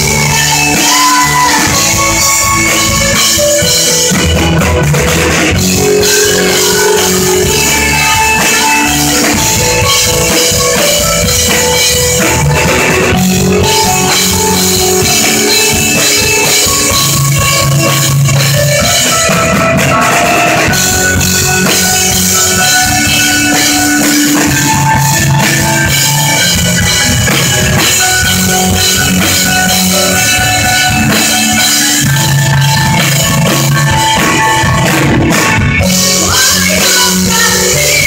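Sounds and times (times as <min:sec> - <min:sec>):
rock band playing instrumental: 0:00.0 - 0:38.0.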